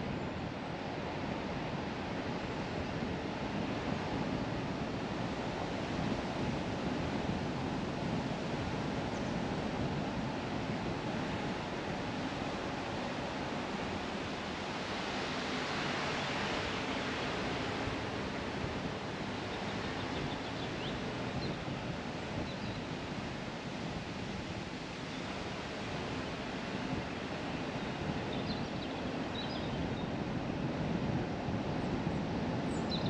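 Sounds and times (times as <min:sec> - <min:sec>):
car road and wind noise: 0:00.0 - 0:28.4.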